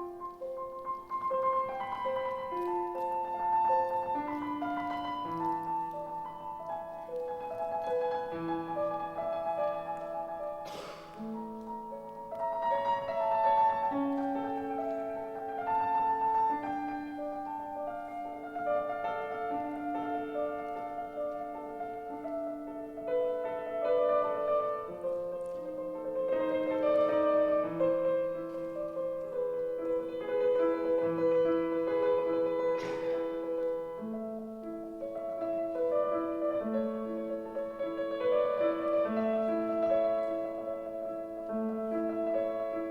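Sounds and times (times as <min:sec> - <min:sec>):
slow classical piano piece: 0:00.0 - 0:42.9.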